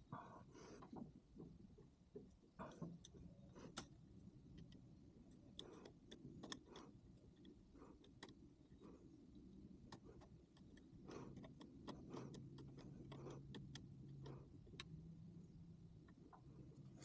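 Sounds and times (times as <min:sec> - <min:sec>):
faint low hum: 0:00.0 - 0:17.0
faint clicks and ticks: 0:00.1 - 0:17.0.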